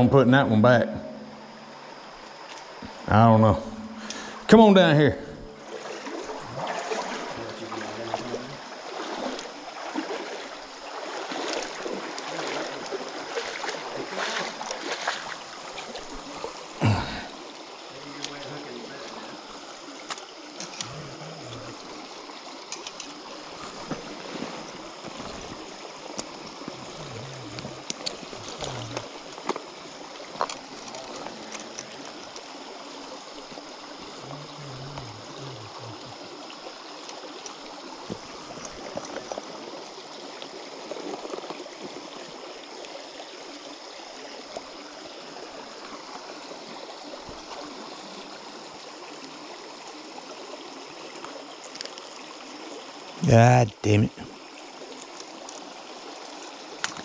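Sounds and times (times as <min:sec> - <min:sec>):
creek flowing over sand: 0:00.0 - 0:57.0.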